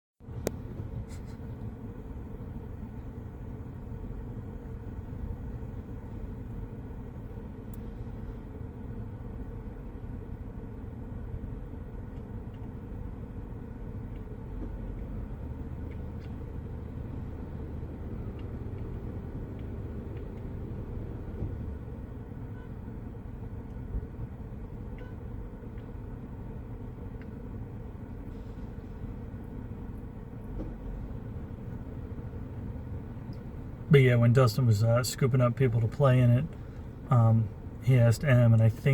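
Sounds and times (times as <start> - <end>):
low vehicle rumble: 0.2 - 38.9.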